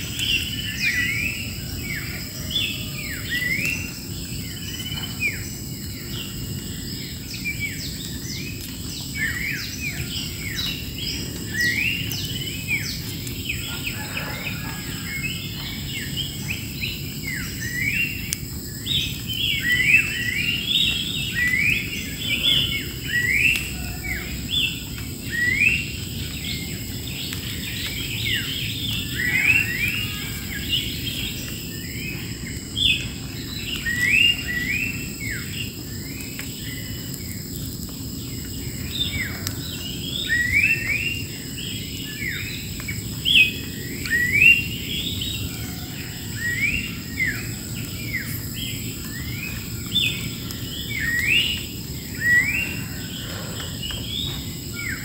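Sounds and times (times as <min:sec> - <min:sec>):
wild birds singing: 0:00.0 - 0:55.0.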